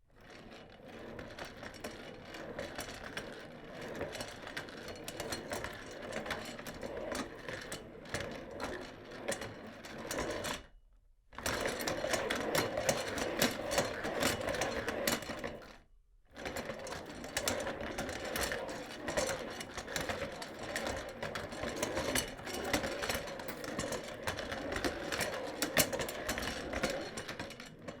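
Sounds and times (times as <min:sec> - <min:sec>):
office chair rolling on casters: 0:00.2 - 0:10.7, 0:11.4 - 0:28.0.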